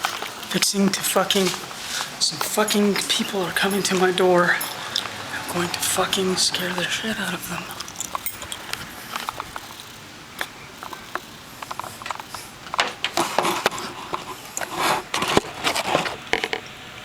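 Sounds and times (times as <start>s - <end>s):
rustling and scraping: 0.0s - 16.6s.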